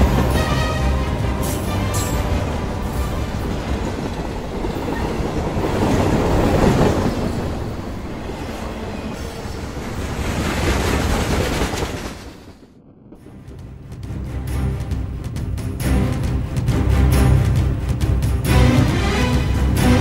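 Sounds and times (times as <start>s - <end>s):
train rumbling across bridge: 0.0s - 20.0s.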